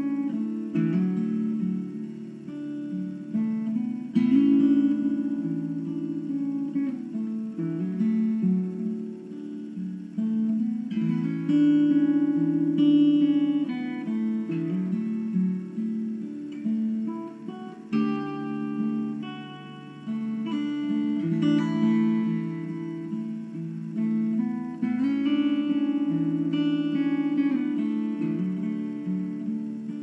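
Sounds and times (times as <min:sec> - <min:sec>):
acoustic guitar playing a jig: 0:00.0 - 0:30.0.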